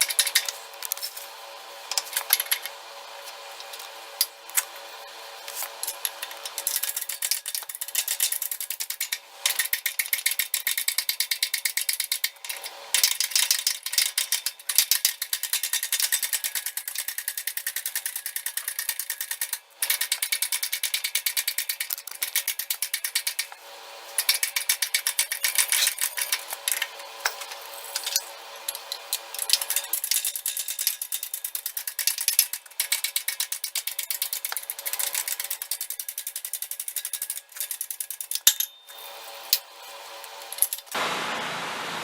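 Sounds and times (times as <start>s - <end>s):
fast ratcheting clicks: 0.0s - 1.0s, 5.8s - 38.7s.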